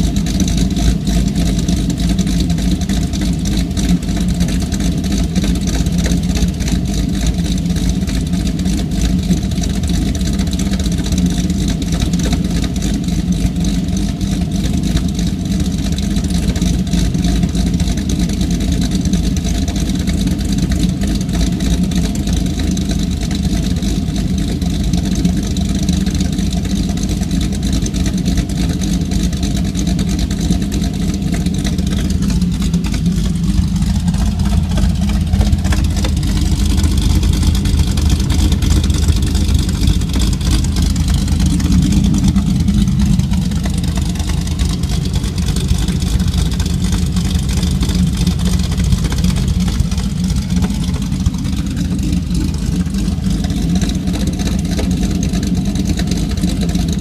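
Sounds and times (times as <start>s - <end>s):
car engine idling with choppy lope: 0.0s - 57.0s.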